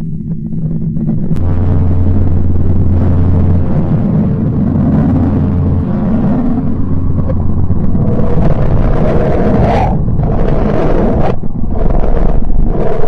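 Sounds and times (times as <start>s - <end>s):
deep rumbling drone: 0.0s - 13.0s.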